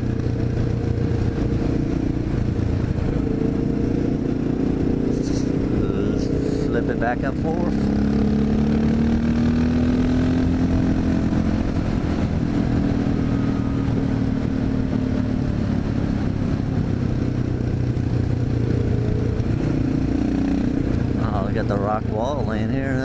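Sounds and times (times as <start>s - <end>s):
motorcycle engine riding: 0.0s - 23.0s.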